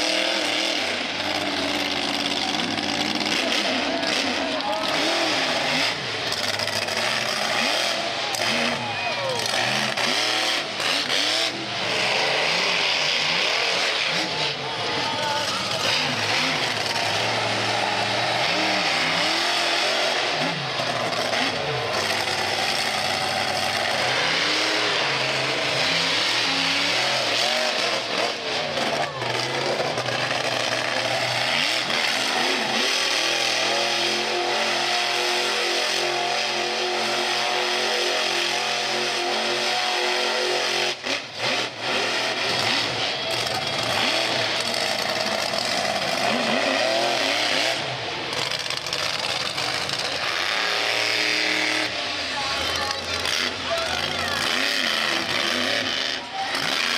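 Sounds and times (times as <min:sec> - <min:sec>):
monster truck engine revving: 0:00.0 - 0:56.9.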